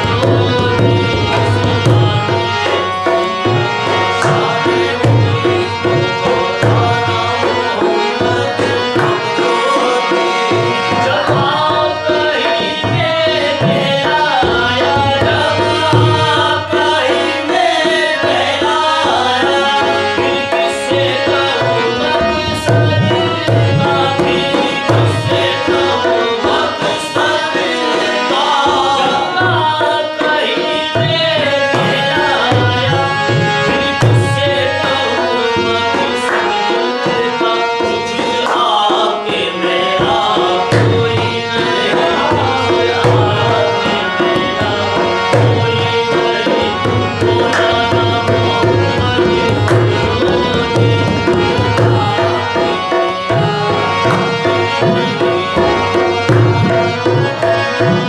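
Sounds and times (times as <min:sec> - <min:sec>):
man singing: 0:00.0 - 0:58.0
tabla drumming: 0:00.0 - 0:58.0.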